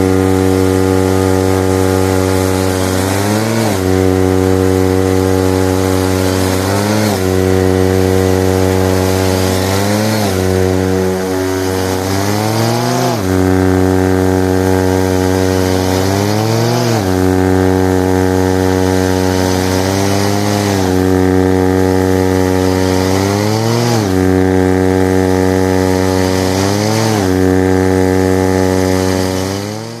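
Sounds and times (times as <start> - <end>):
snowblower engine running hard: 0.0 - 30.0.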